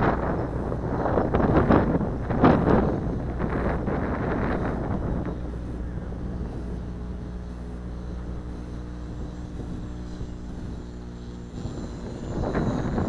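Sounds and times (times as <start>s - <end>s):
model plane electric motor humming: 0.0s - 13.0s.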